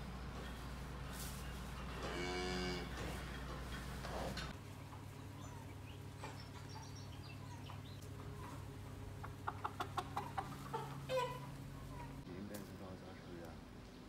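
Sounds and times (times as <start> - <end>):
chickens clucking: 0.0 - 12.3
steady low hum: 0.0 - 14.0.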